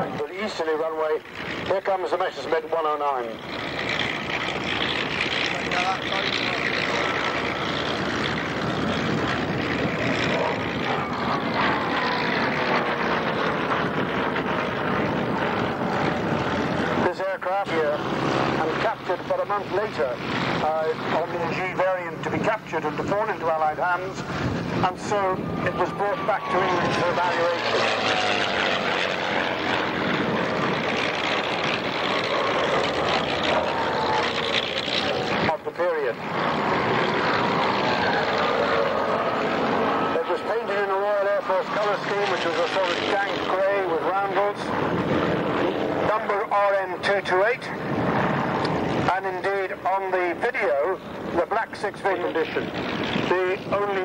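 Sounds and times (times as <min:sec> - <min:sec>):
propeller plane engine roar: 0:00.0 - 0:54.0.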